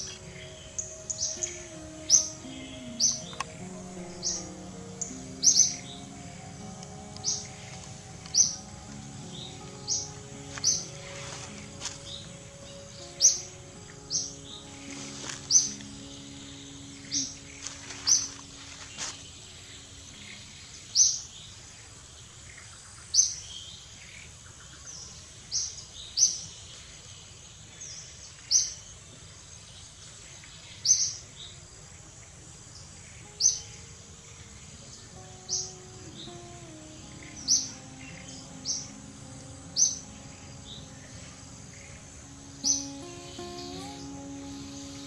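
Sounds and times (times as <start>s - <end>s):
bird chirping: 0.0s - 29.0s, 29.6s - 45.0s
outdoor background noise: 0.0s - 45.0s.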